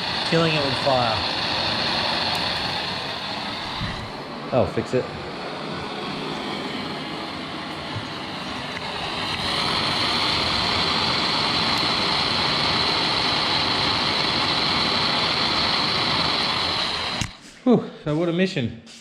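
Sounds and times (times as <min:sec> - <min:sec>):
gas torch flame hissing: 0:00.0 - 0:17.6.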